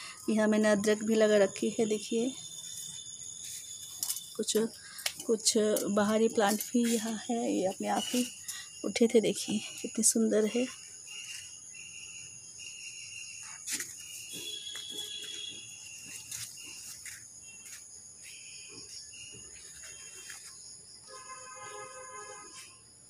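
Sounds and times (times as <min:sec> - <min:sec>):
broken insect calls: 0:00.0 - 0:23.0
crickets chirring: 0:00.0 - 0:23.0.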